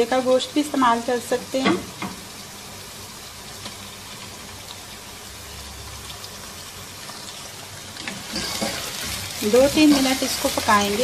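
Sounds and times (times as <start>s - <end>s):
meat and onions sizzling in oil: 0.0s - 11.0s.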